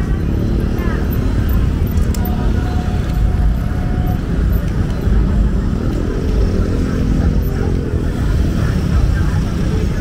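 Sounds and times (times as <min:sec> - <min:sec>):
engine drone: 0:00.0 - 0:10.0
road traffic rumble: 0:00.0 - 0:10.0.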